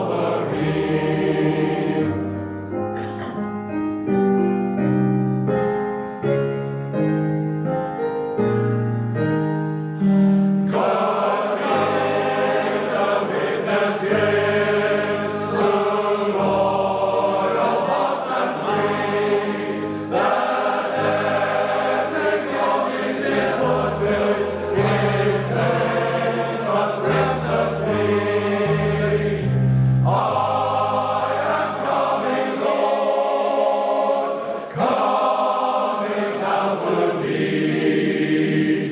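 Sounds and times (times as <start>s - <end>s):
male choir singing in harmony: 0.0s - 3.1s, 10.0s - 38.9s
piano accompaniment: 0.0s - 38.9s.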